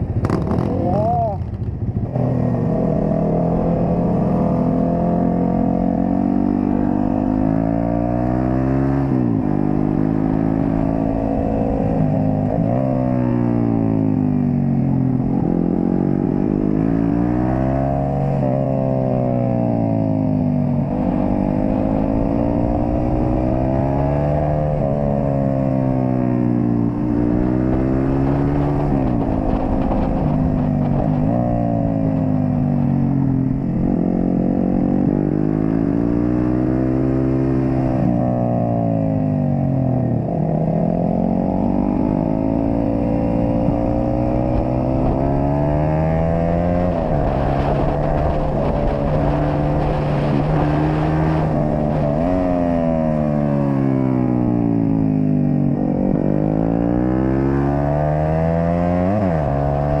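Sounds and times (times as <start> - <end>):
motorcycle engine revving: 0.0 - 60.0
wind noise: 0.0 - 60.0.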